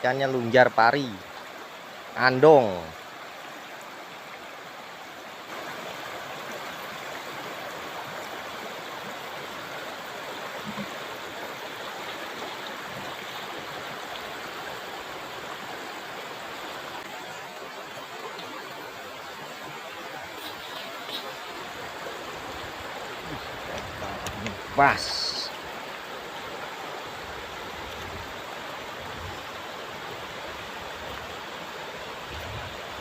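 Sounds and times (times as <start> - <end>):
river water running: 0.0 - 33.0.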